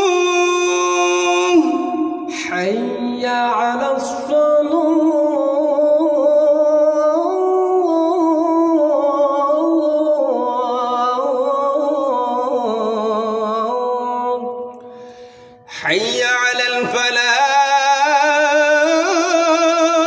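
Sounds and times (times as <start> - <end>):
man chanting call to prayer: 0.0 - 14.6, 15.7 - 20.0.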